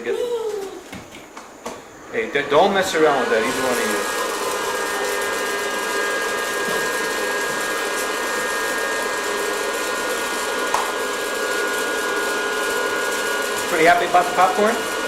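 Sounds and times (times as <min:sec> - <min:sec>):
popcorn popper blower whirring: 0:02.1 - 0:15.0.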